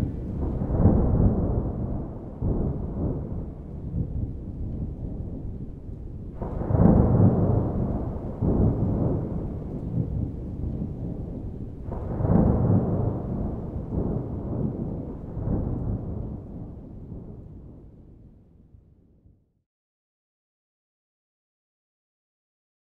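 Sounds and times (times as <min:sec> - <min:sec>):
rolling thunder: 0:00.0 - 0:18.8.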